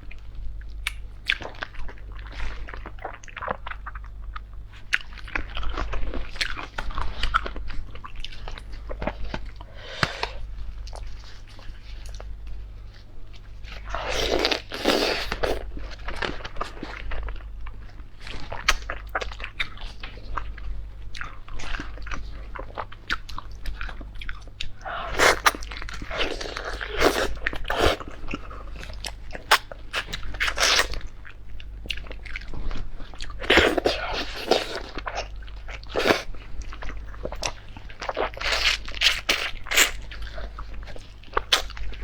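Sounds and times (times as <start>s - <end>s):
crunching and chewing food: 0.0s - 42.0s.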